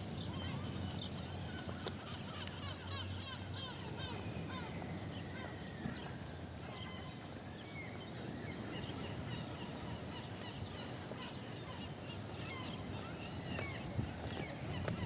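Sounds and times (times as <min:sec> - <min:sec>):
background hum and murmur: 0:00.0 - 0:15.0.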